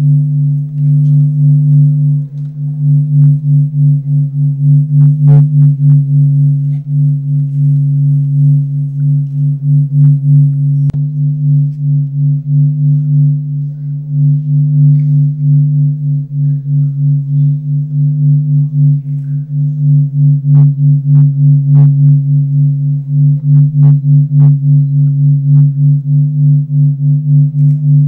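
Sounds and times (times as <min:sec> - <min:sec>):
low droning tone: 0:00.0 - 0:28.0.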